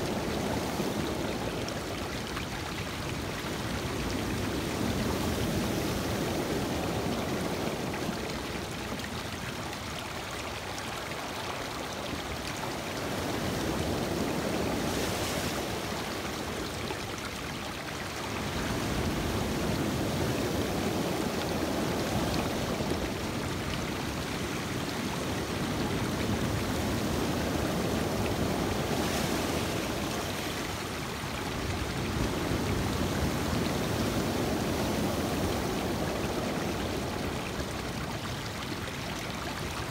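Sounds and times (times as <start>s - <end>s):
waves washing over rocky shore: 0.0s - 9.9s, 10.6s - 39.9s.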